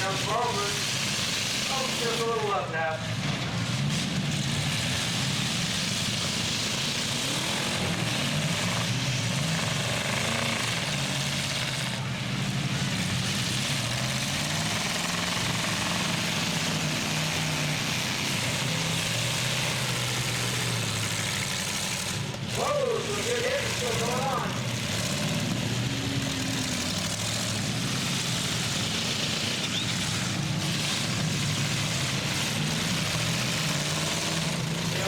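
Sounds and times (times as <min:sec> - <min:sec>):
continuous noise: 0:00.0 - 0:35.0
truck engines revving: 0:00.0 - 0:35.0.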